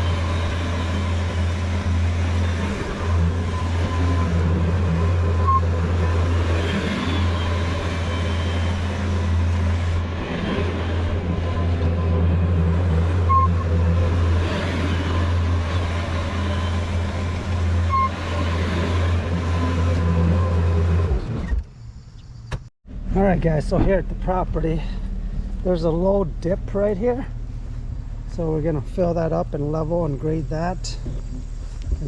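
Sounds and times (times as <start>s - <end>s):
road noise: 0.0s - 32.0s
truck engine drone: 0.0s - 32.0s.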